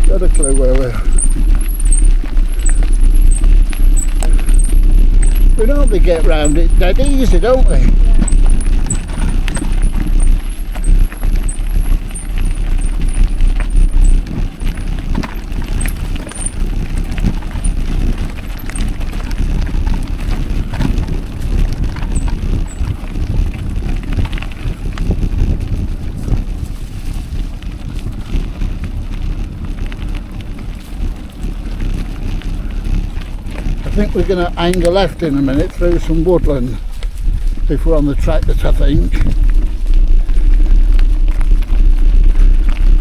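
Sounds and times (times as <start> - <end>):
running footsteps on a trail: 0.0 - 43.0
wind rumbling on microphone: 0.0 - 43.0.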